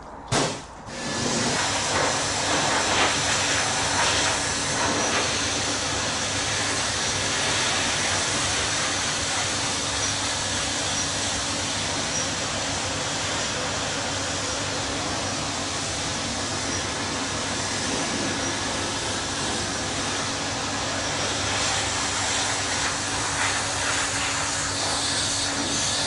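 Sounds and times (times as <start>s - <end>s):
pressure washer spray hiss: 0.4s - 26.0s
low machine hum: 1.9s - 26.0s.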